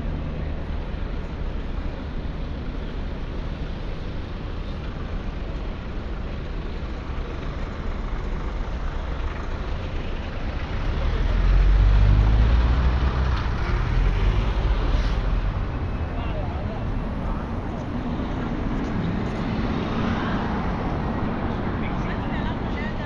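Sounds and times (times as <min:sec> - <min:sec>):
city road traffic: 0:00.0 - 0:23.0
large vehicle engine rumble: 0:00.0 - 0:23.0.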